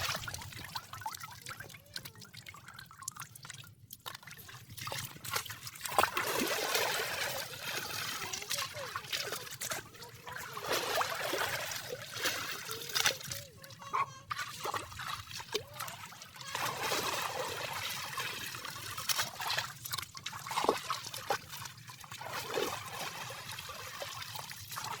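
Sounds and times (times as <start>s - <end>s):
shallow water splashing: 0.0s - 25.0s.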